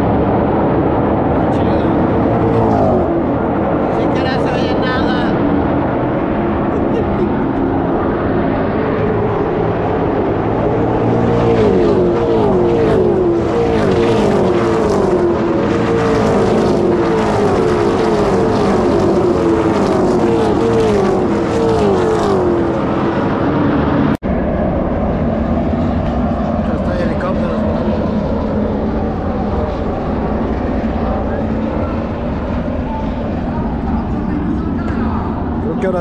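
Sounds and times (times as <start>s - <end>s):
race car engines passing by: 0.0s - 36.0s.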